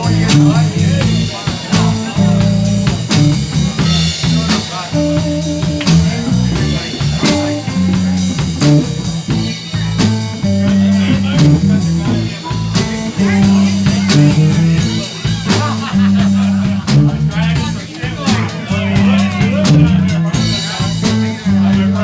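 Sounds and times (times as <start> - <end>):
bass notes: 0.0 - 22.0
blues guitar: 0.0 - 22.0
drum kit beat: 0.0 - 22.0.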